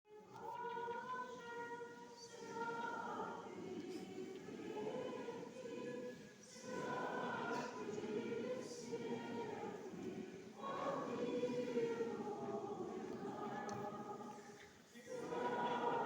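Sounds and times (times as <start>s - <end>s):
church choir singing a slow chant: 0.1s - 16.0s.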